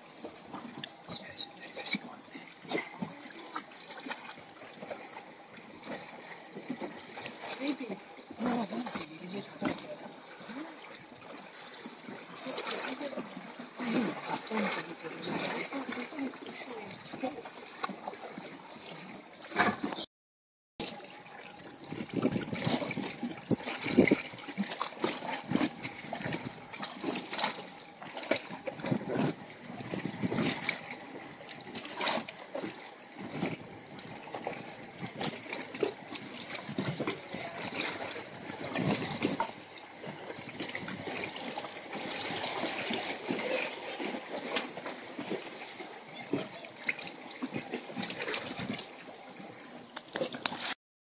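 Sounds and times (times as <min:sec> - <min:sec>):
sea water lapping and splashing: 0:00.0 - 0:20.1, 0:20.8 - 0:50.8.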